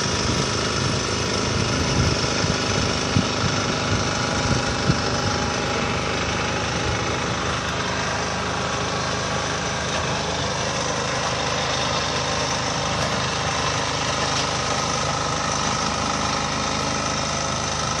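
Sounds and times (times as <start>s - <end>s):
machinery engine running: 0.0s - 18.0s.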